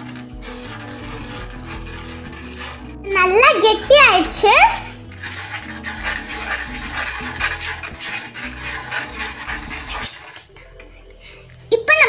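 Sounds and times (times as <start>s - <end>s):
whisk scraping in clay pot: 0.0s - 11.2s.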